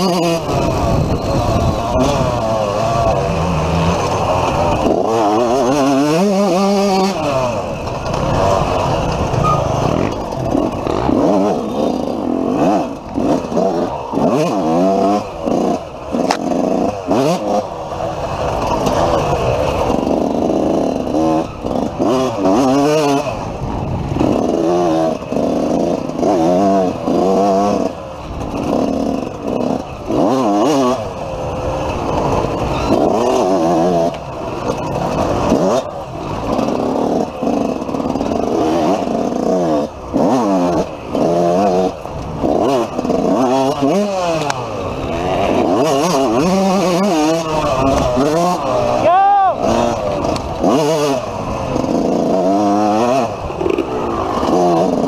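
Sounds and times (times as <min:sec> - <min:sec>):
bike clattering and scraping: 0:00.0 - 0:55.0
dirt bike engine revving: 0:00.0 - 0:55.0.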